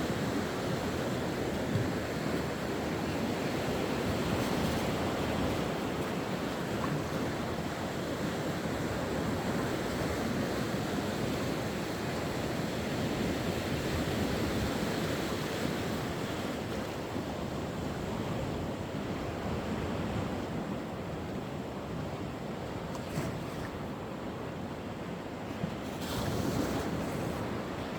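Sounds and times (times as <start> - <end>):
sea waves washing on shore: 0.0 - 27.9.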